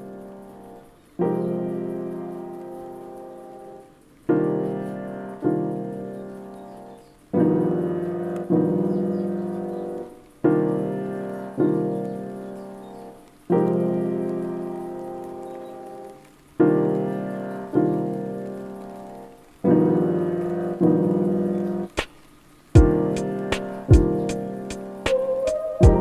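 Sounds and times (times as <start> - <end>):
slow piano chords: 0.0 - 22.0, 22.7 - 26.0.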